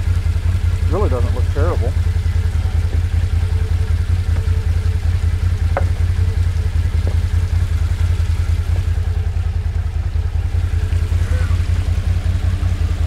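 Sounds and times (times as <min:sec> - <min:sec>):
engine running pulsing hum: 0:00.0 - 0:13.0.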